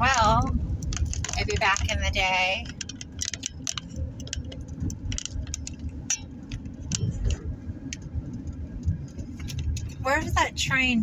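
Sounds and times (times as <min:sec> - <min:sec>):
loose items rattling in car: 0:00.0 - 0:11.0
road and tyre rumble: 0:00.0 - 0:11.0.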